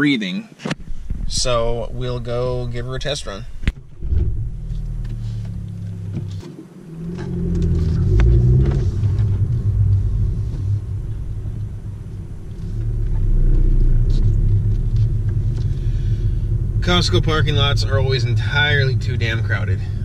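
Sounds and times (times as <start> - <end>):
car engine accelerating: 3.6 - 20.0.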